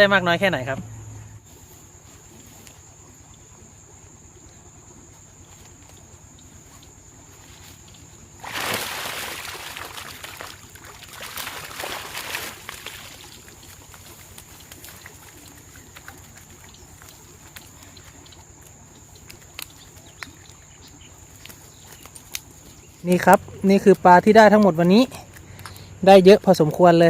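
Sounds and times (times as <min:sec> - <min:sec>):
water splashing and sloshing: 0:01.4 - 0:27.0.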